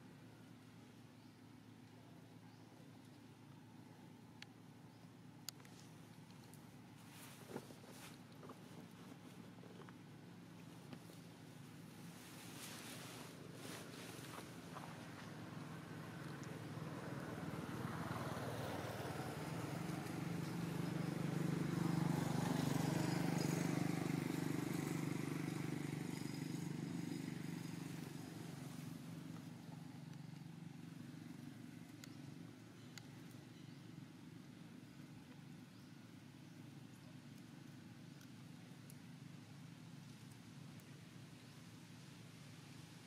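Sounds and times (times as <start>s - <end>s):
engine hum passing by: 1.9s - 43.0s.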